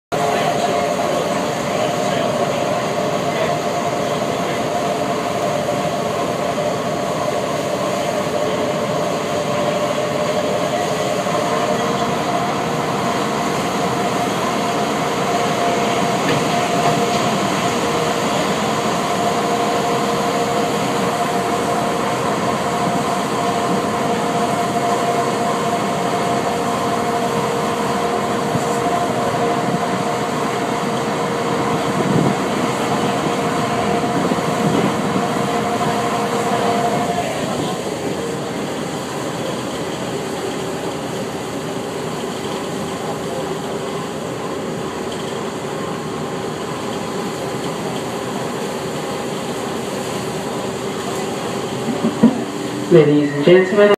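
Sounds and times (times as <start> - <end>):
boat engine droning: 0.1 - 53.9.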